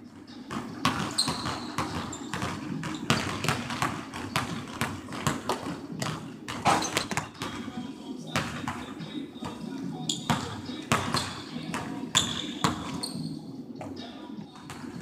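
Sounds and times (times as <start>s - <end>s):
basketball bouncing on hardwood floor: 0.5s - 7.6s, 8.4s - 13.4s.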